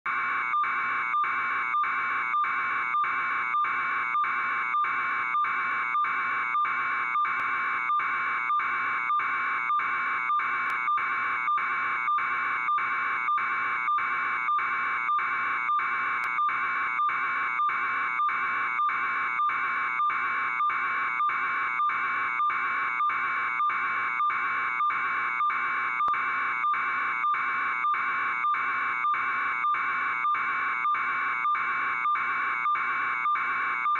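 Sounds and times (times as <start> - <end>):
pulsing electronic buzzer tone: 0.1 - 33.9.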